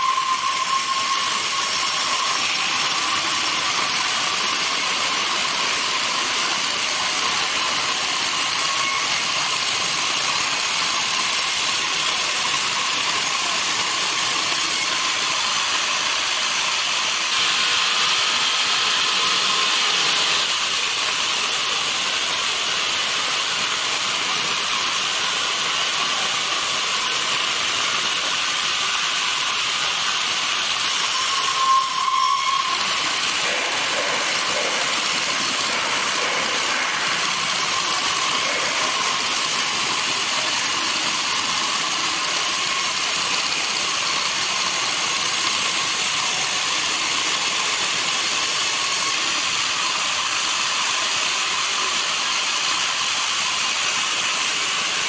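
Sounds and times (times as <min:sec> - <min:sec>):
band sawmill hissing with whine: 0:00.0 - 0:55.0.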